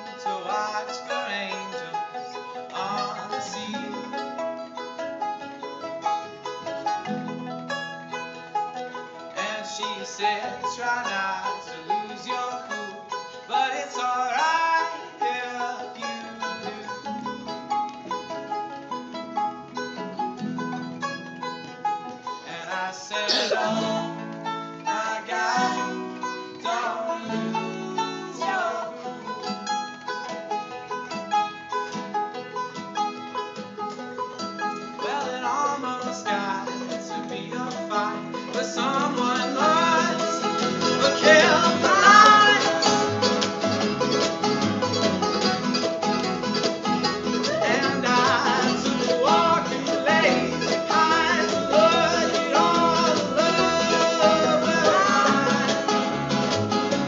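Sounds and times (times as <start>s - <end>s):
band with fast picked strings: 0.0s - 57.0s
bent sliding notes: 0.0s - 57.0s.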